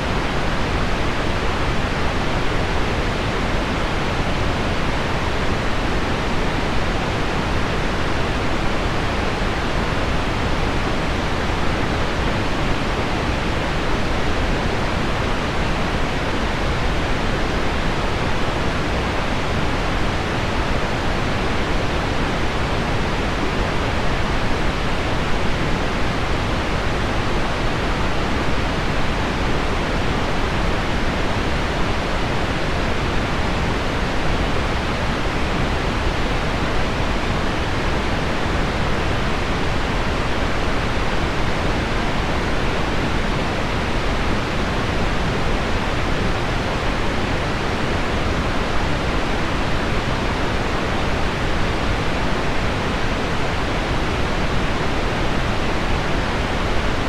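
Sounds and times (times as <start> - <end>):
pink noise: 0.0 - 57.0.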